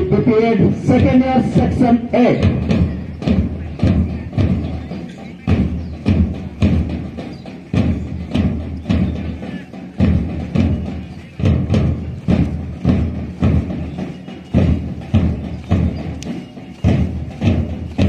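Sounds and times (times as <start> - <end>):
marching drum beating: 0.0 - 18.0.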